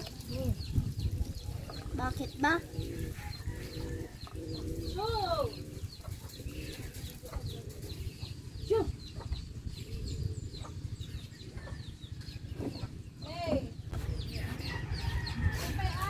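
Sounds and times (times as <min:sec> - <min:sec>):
chickens clucking: 0:00.0 - 0:16.0
steady low rumble: 0:00.0 - 0:16.0.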